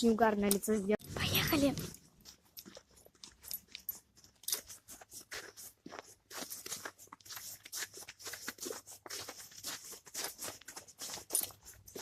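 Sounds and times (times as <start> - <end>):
crunching footsteps: 0.2 - 12.0.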